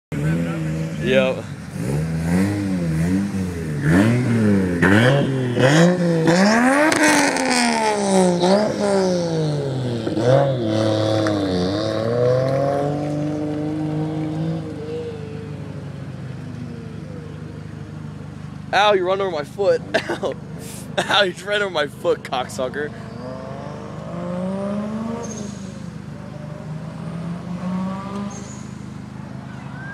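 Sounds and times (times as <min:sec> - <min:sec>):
car engine revving: 0:00.1 - 0:29.9.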